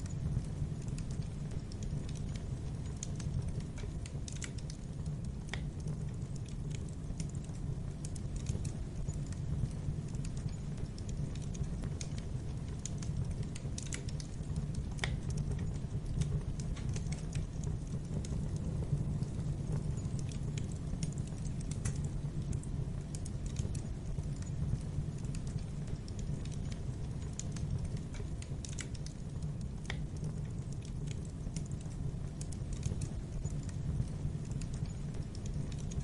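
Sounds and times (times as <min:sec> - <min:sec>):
low rumble of flames: 0:00.0 - 0:36.0
wood fire crackling and popping: 0:00.0 - 0:36.0.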